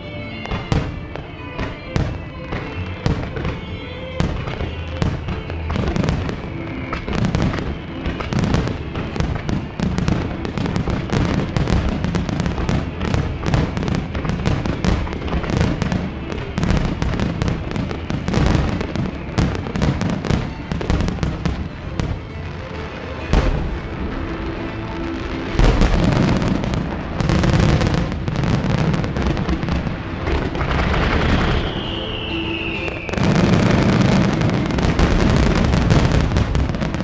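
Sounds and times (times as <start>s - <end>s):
show music: 0.0s - 37.0s
firework bursts with crackling: 0.4s - 37.0s.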